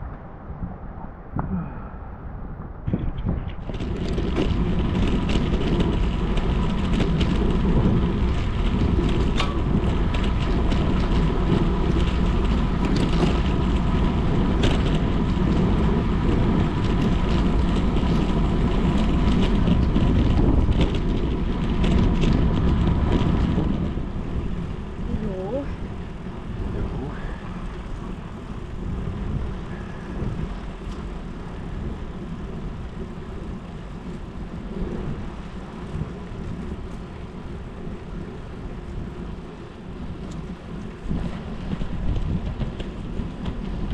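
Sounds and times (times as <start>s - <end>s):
bicycle tyres on wet road: 0.0s - 43.9s
wind rushing: 0.0s - 43.9s.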